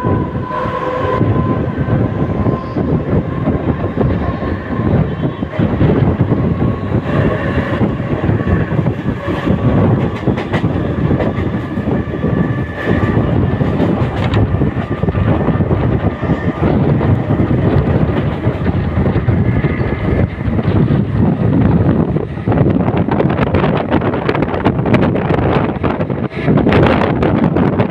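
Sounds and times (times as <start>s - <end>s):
electric train rumbling on track: 0.0s - 27.9s.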